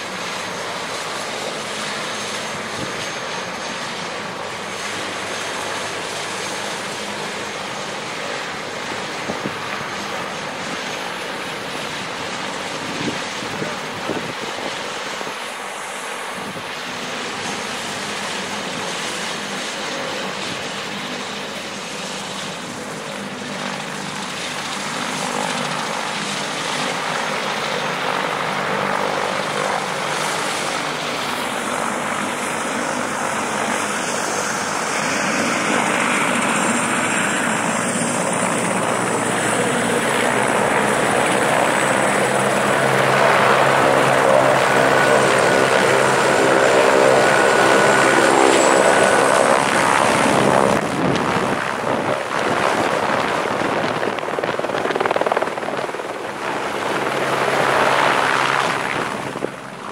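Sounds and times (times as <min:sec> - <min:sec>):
helicopter rotor: 0:00.0 - 0:59.9.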